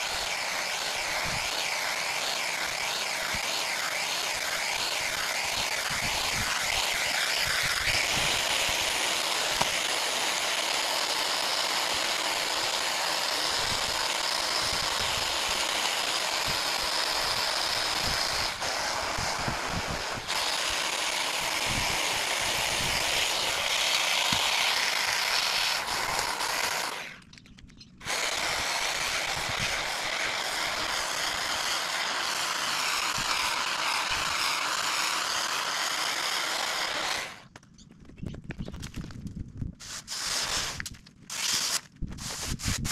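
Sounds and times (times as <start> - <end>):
hedge trimmer buzzing: 0.0 - 27.3, 28.0 - 37.5.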